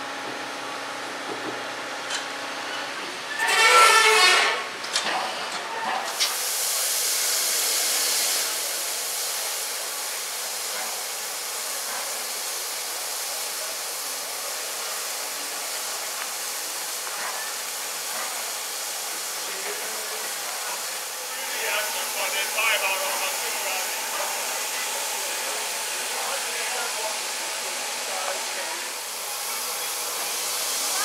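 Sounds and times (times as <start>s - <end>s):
steam locomotive hissing: 2.7s - 31.0s.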